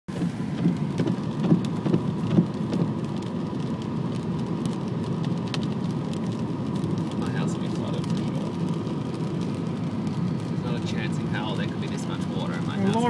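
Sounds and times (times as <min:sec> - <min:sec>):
heavy rain hitting a car: 0:00.1 - 0:13.0.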